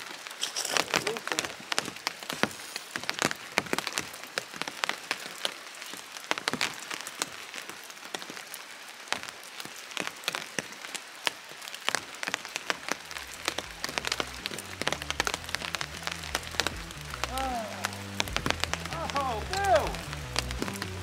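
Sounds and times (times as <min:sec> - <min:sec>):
heavy rain tapping: 0:00.0 - 0:21.0.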